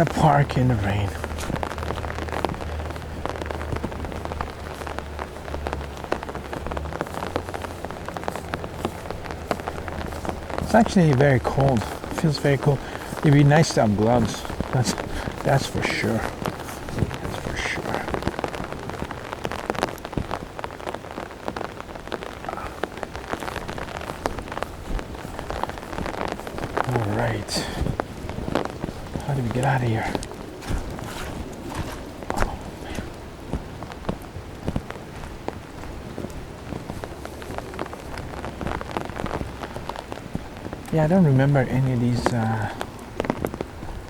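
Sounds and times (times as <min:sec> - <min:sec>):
heavy rain falling: 0:00.0 - 0:44.0
raindrops tapping near microphone: 0:00.0 - 0:44.0.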